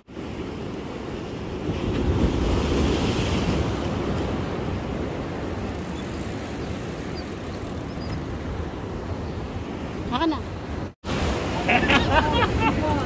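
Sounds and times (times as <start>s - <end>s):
waves at breakwater: 0.0s - 13.0s.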